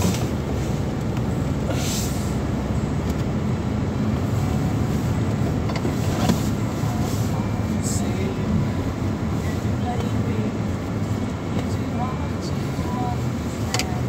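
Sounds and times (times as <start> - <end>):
car interior road rumble: 0.0 - 14.0.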